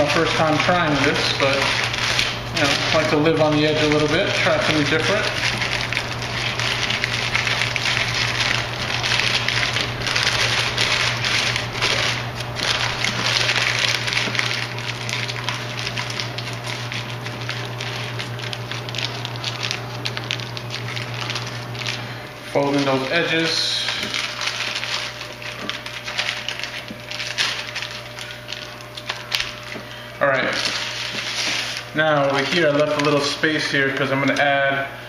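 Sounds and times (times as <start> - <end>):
parchment paper crinkling: 0.0 - 34.6
steady low hum: 0.0 - 35.0.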